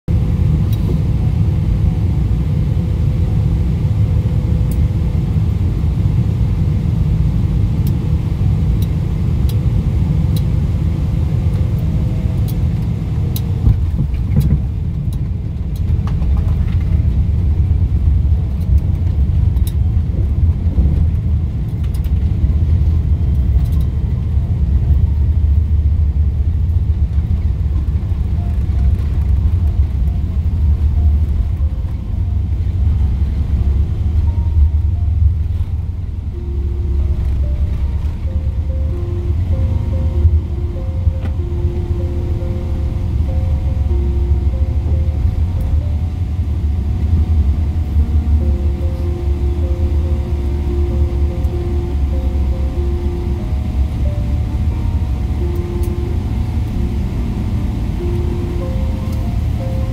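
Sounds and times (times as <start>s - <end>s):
airliner engine and airflow rumble: 0.1s - 59.9s
faint steady hum: 0.1s - 59.9s.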